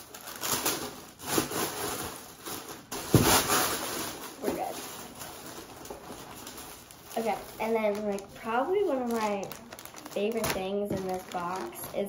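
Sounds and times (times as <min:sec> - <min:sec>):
tissue paper rustling and crinkling: 0:00.0 - 0:12.0.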